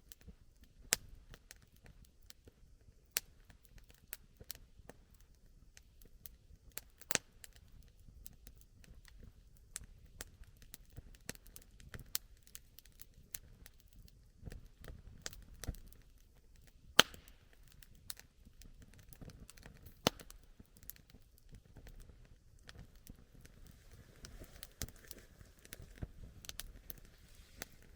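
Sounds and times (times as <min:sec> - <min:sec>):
campfire crackling and popping: 0:00.0 - 0:27.9.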